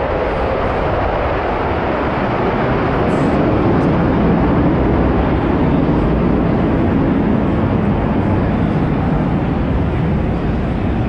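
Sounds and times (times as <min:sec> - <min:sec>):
aircraft flying overhead: 0:00.0 - 0:11.0.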